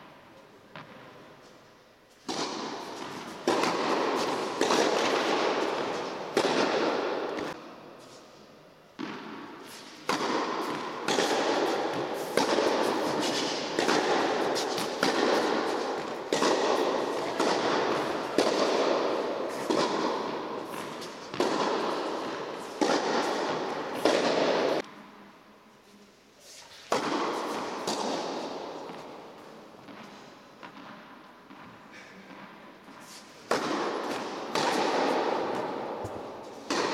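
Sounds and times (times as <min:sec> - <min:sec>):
tennis ball struck by rackets: 0:02.2 - 0:07.6, 0:09.0 - 0:24.8, 0:26.8 - 0:36.9.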